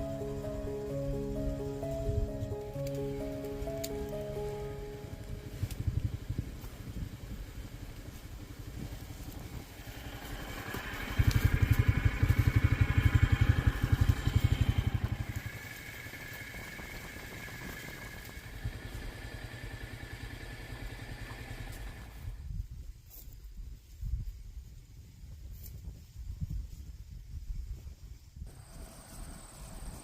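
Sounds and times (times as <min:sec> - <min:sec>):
engine low pulsing: 0:00.0 - 0:25.1, 0:28.1 - 0:30.0.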